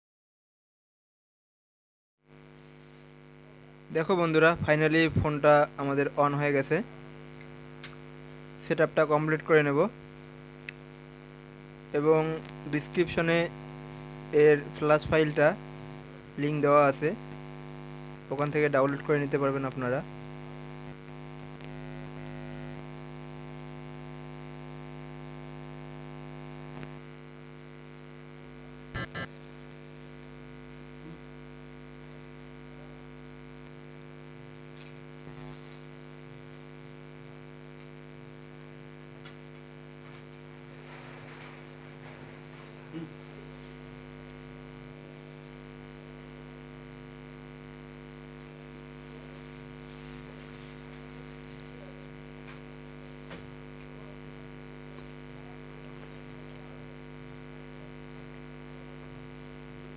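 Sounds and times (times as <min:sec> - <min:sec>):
electrical mains hum: 0:02.3 - 0:59.9.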